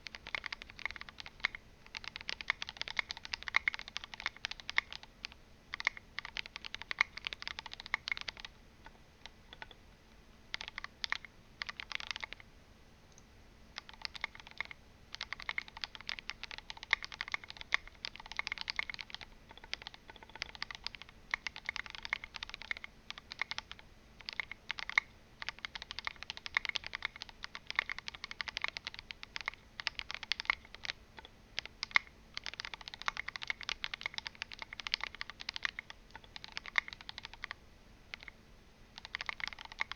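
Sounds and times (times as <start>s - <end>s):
mechanical keyboard typing: 0.0s - 9.8s, 10.5s - 12.4s, 13.8s - 38.4s, 39.0s - 39.9s.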